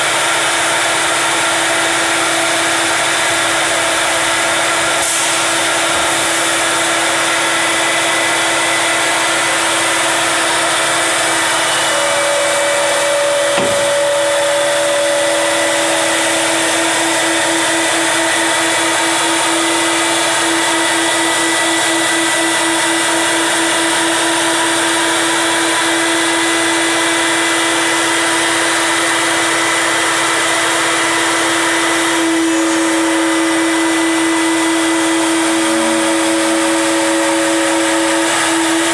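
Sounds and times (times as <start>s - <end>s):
router spindle cutting wood: 0.2s - 38.9s.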